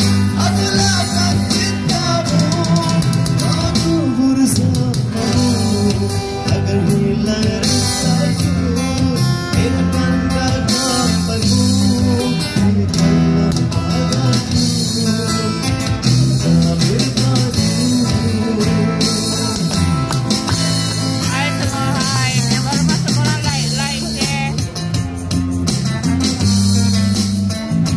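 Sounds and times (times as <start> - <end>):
live band playing over speakers: 0.0 - 27.9.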